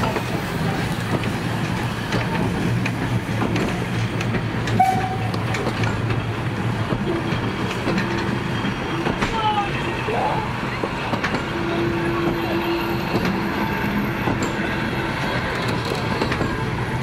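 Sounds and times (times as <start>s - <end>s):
train coaches rumbling past: 0.0s - 17.0s.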